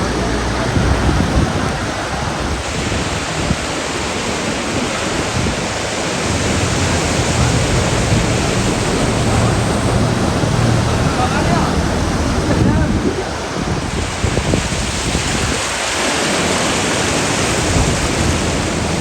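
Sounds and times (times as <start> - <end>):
heavy rain pouring: 0.0 - 19.0
wind rumbling on microphone: 0.0 - 19.0.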